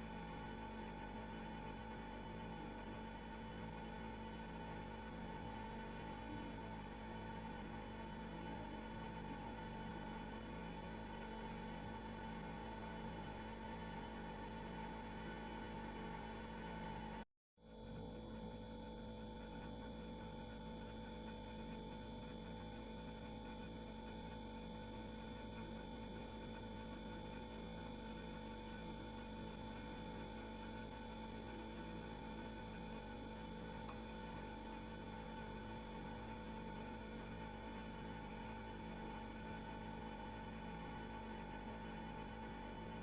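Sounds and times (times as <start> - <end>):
refrigerator humming: 0.0 - 17.2, 18.7 - 43.0.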